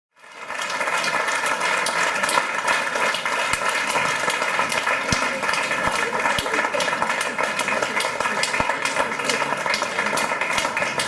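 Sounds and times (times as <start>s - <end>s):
audience applauding: 0.2s - 11.0s.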